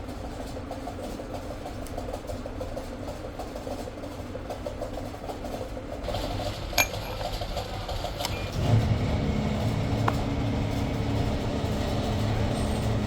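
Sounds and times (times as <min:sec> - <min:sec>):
factory machinery rattle and hum: 0:00.0 - 0:13.0.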